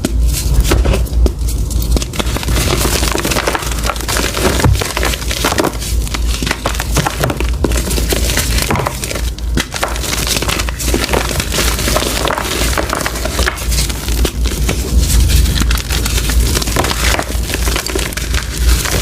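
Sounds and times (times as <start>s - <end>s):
chalk crunching and crumbling: 0.0s - 19.0s.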